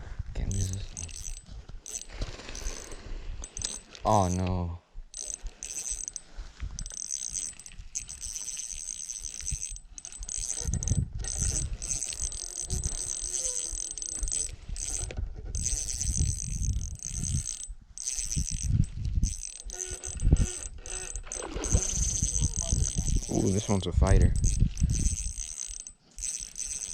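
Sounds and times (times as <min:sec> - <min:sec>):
fishing reel clicking and whirring: 0:00.5 - 0:04.5, 0:05.1 - 0:26.9.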